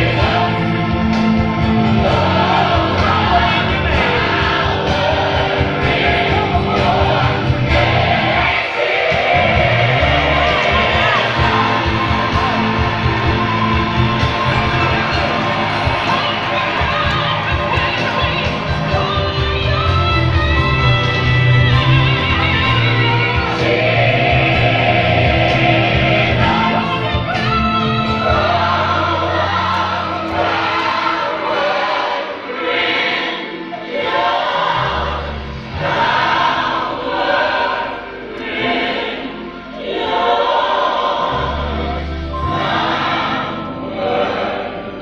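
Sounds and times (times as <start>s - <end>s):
backing band: 0.0s - 45.0s
choir singing gospel: 0.0s - 45.0s.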